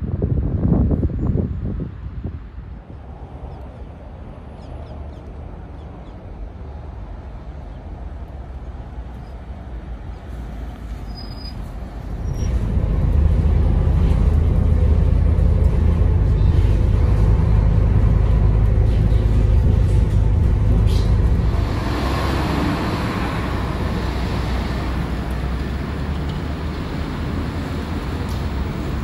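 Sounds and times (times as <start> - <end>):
vehicle rumbling in motion: 0.0 - 29.0.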